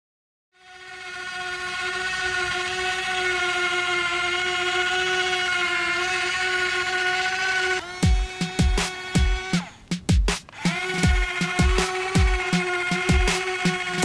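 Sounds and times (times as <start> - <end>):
toy electric motor whining: 0.6 - 14.0.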